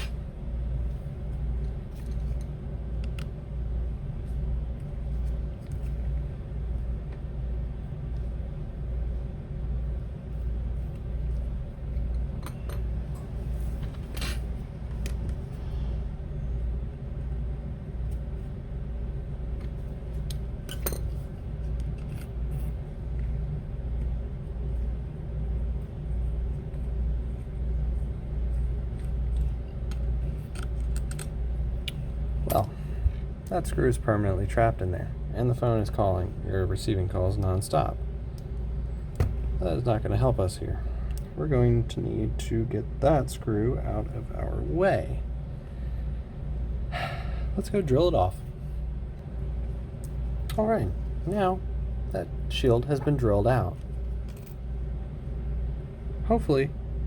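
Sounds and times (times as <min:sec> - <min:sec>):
pulsing low hum: 0:00.0 - 0:57.0.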